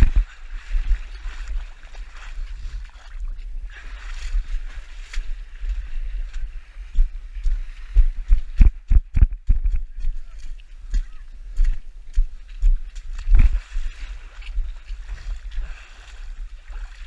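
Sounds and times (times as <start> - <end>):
muddy water splashing: 0.0 - 17.0.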